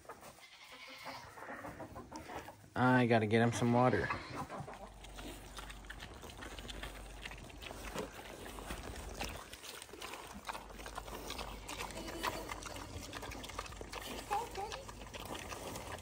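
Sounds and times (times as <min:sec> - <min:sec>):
pigs chewing and crunching: 0:00.0 - 0:16.0.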